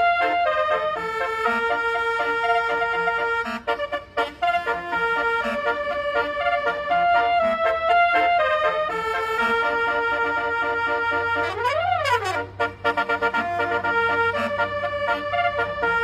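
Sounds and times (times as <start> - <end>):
multi-tone horn melody: 0.0 - 16.0.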